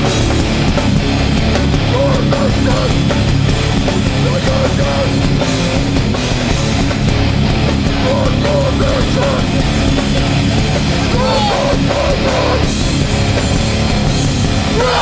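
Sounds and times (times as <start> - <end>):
hardcore band playing live: 0.0 - 15.0.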